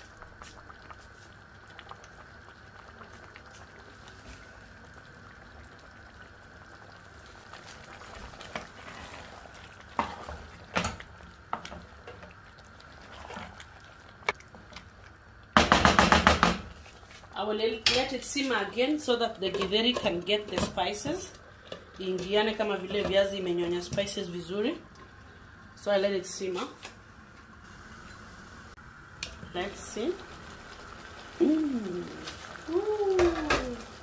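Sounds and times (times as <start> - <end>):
stew bubbling in a pot: 0.0 - 34.0.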